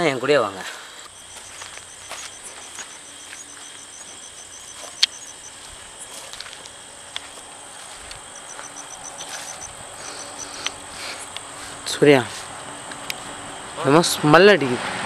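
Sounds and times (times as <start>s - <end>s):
crickets chirping: 0.0s - 14.5s.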